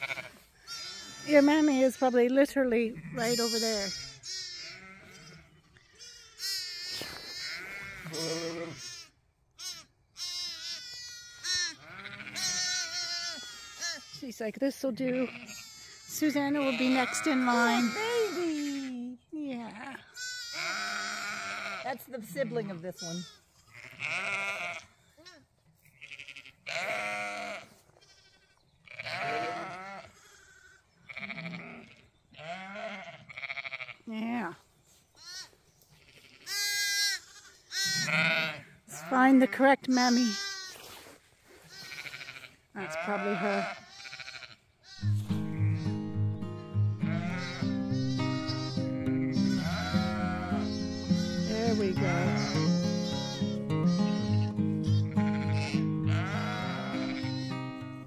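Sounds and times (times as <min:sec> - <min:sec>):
deeper ewe bleats: 0:00.0 - 0:18.9, 0:19.6 - 0:34.6, 0:35.2 - 0:40.9, 0:41.6 - 0:58.0
lambs bleating: 0:00.0 - 0:18.9, 0:19.6 - 0:34.5, 0:35.2 - 0:58.0.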